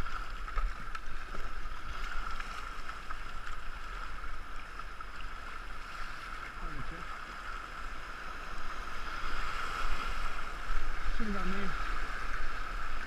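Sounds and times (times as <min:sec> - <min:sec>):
rush of water and wind: 0:00.0 - 0:13.0.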